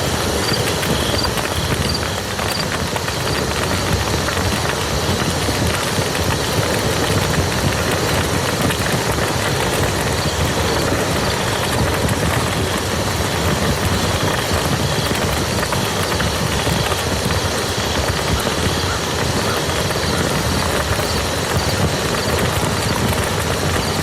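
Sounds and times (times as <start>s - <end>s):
rain falling on a field: 0.0s - 24.0s.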